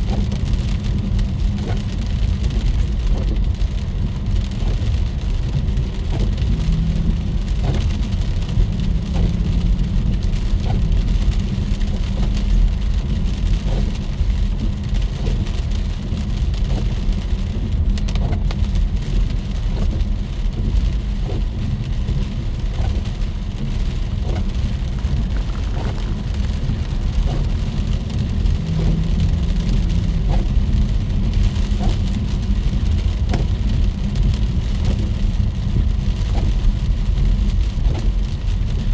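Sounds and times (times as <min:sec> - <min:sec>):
deep rumble: 0:00.0 - 0:38.9
heavy rain falling: 0:00.0 - 0:38.9.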